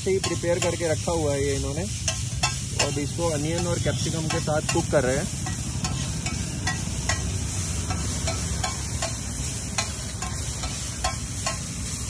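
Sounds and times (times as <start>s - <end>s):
food sizzling on griddle: 0.0s - 12.0s
metal spatula scraping griddle: 0.0s - 12.0s.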